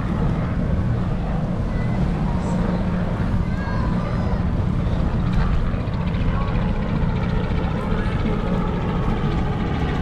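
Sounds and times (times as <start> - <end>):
faint voices: 0.0 - 10.0.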